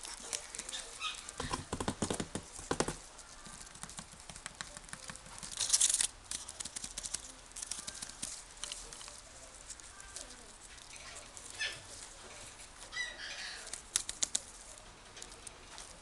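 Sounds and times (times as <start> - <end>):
puppy mouthing artificial flowers: 0.0 - 1.6, 2.4 - 16.0
rustling in wicker basket: 0.0 - 16.0.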